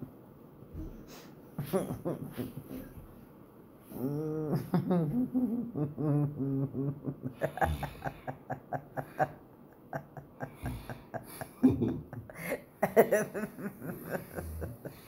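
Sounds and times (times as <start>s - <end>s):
person giggling: 1.6s - 3.0s, 3.9s - 15.0s.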